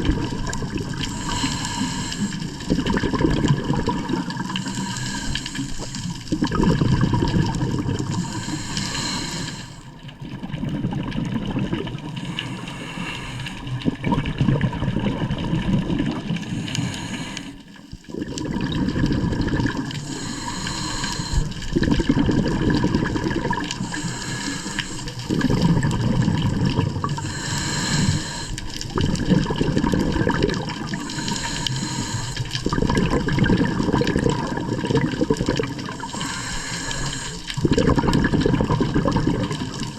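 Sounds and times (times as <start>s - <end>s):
faint steady hum: 0.0s - 39.9s
water rushing and churning: 0.0s - 39.9s.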